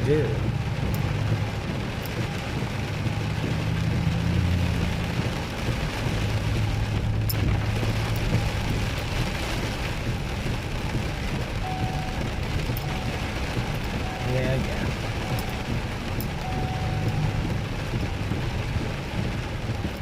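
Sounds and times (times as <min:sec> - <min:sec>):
engine low hum: 0:00.0 - 0:20.0
heavy rain on a vehicle: 0:00.0 - 0:20.0
raindrop ticks: 0:00.0 - 0:20.0.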